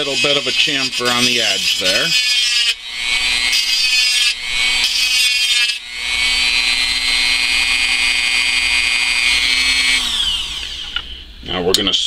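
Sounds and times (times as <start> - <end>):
rotary tool grinding metal: 0.0 - 10.9
rotary tool high-pitched whine: 0.0 - 11.1.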